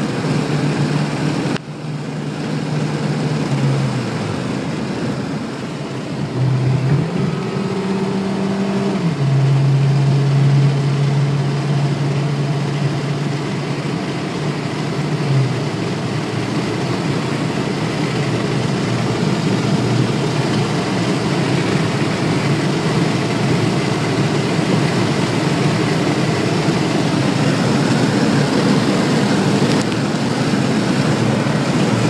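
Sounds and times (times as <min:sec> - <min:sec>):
car engine: 0:00.0 - 0:32.0.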